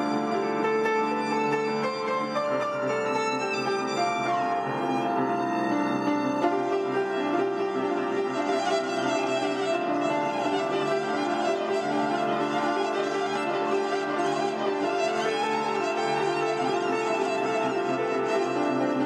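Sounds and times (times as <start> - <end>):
bowed violin melody: 0.0 - 19.0
piano accompaniment: 0.0 - 19.0.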